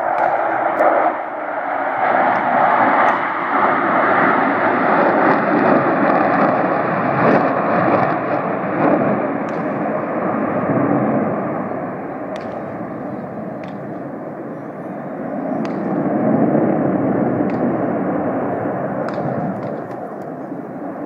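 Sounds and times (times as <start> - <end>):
jet noise rushing: 0.0 - 21.0.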